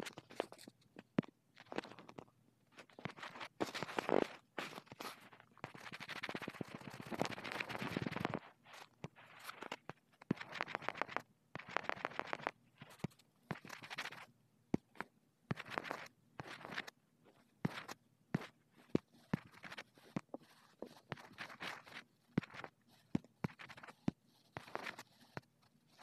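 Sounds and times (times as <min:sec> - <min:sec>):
finger scratching on touchscreen: 0:02.8 - 0:14.3, 0:14.9 - 0:26.0.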